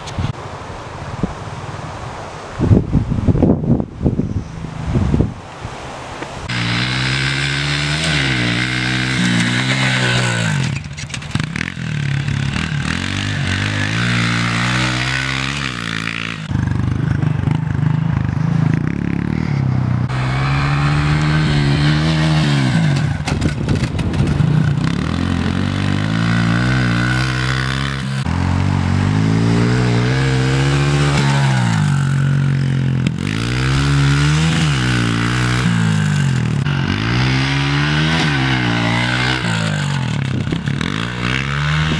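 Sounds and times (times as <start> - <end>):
pit bike engine revving: 6.4 - 41.9.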